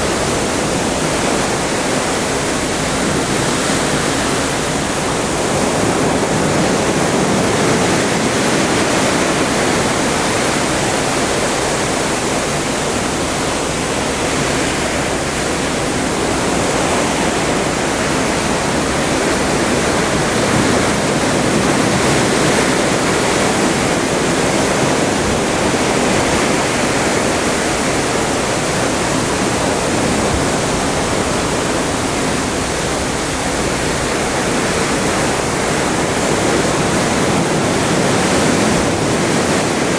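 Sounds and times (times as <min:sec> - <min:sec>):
sea water rushing past ship: 0:00.0 - 0:39.9.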